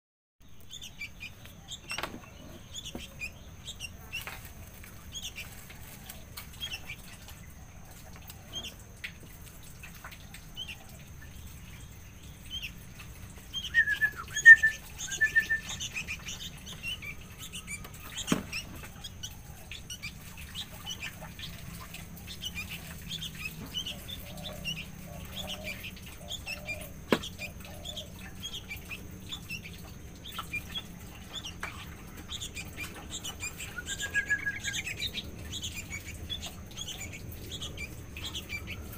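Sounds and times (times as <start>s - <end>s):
bulbuls chirping: 0.4s - 38.9s.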